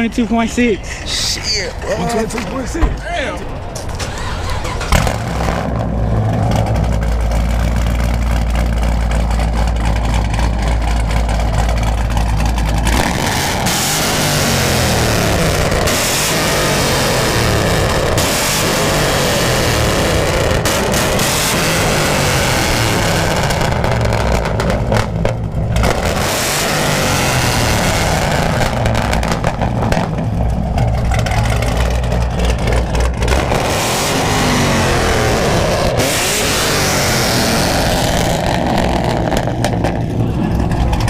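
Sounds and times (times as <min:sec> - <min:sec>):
car engine revving loudly: 0:04.1 - 0:40.8.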